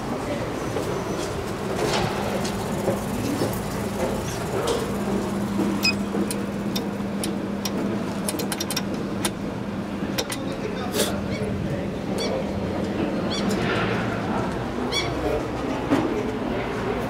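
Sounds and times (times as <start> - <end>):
elevator humming: 0.0 - 15.4
background traffic: 0.0 - 17.0.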